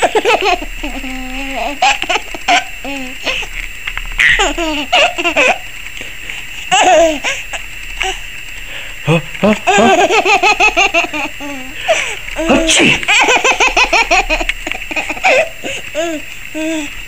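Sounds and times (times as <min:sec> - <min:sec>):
baby laughing: 0:00.0 - 0:03.5, 0:04.2 - 0:05.6, 0:06.7 - 0:08.2, 0:09.4 - 0:16.9.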